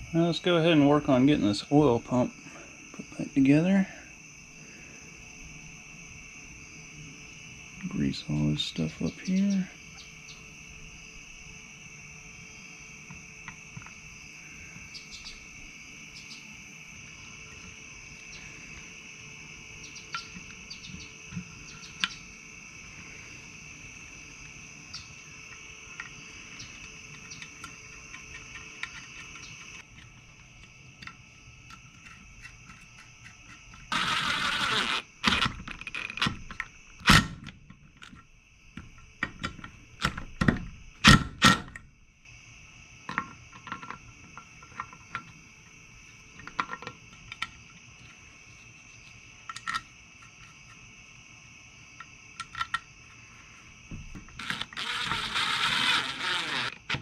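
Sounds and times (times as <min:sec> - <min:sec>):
crickets chirring: 0:00.0 - 0:57.0.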